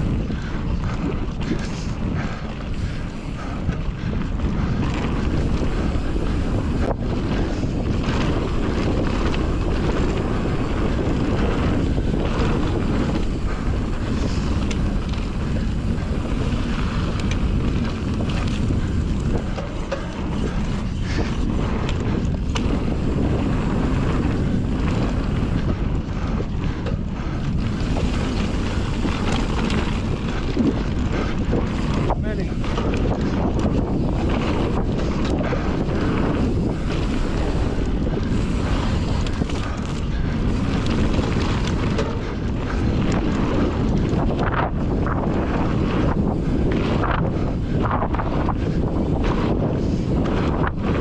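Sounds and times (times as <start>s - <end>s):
bike clicks and rattles: 0.0s - 51.0s
mountain bike rumble on dirt: 0.0s - 51.0s
wind buffeting microphone: 0.0s - 51.0s.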